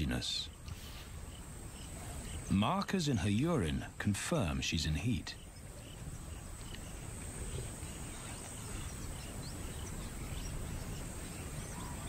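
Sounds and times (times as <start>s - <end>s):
faint insect whine: 0.0s - 12.0s.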